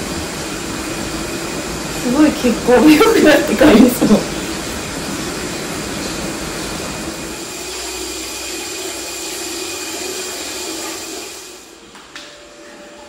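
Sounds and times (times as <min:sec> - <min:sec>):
water pouring into bath: 0:00.0 - 0:11.7.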